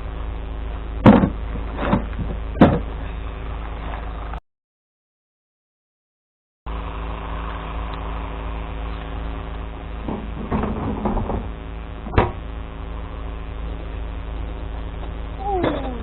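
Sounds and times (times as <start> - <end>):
truck engine running: 0.0 - 4.4, 6.7 - 16.0.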